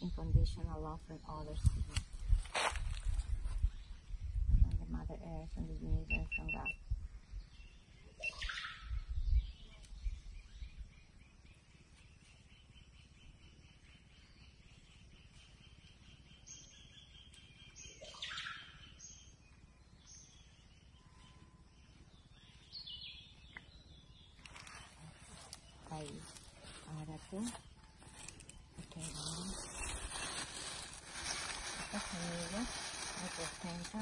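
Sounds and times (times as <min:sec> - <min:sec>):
birds chirping: 0:05.6 - 0:34.0
sweeping bird calls: 0:06.1 - 0:34.0.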